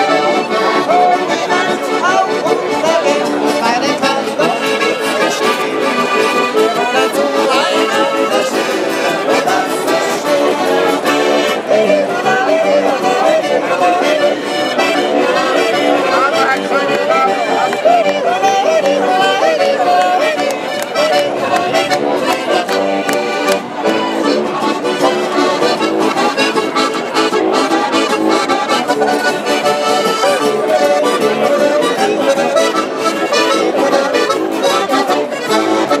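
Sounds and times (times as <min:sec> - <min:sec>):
button accordions playing folk tune: 0:00.0 - 0:36.0.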